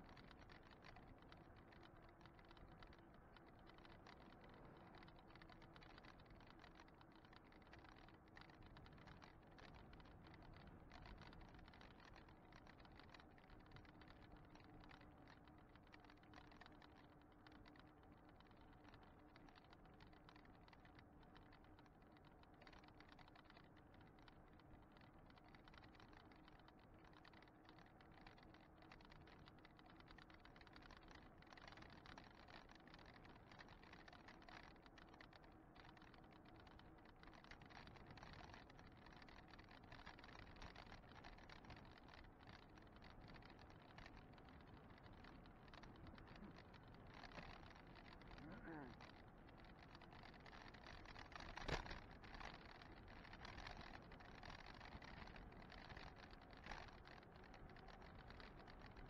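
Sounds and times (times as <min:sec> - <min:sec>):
bike and camera rattling: 0:00.0 - 0:59.0
faint steady hum: 0:00.0 - 0:59.0.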